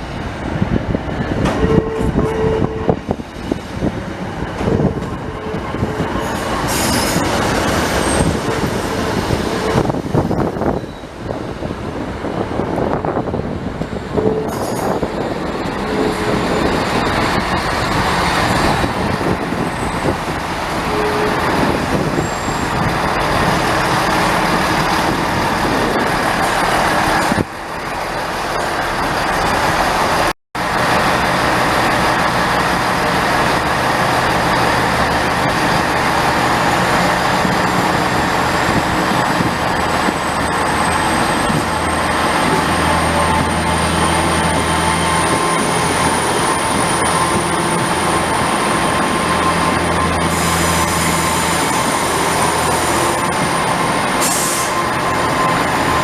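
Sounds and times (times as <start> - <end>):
train passing: 0.0 - 56.0.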